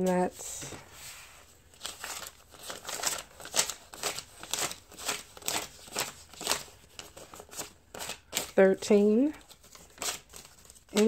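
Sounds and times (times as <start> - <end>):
paper bills rustling: 0.0 - 11.0.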